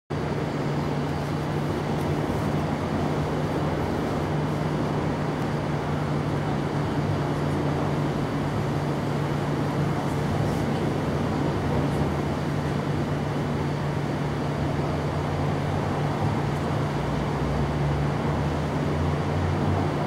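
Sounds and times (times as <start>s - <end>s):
machine humming steadily: 0.1s - 20.0s.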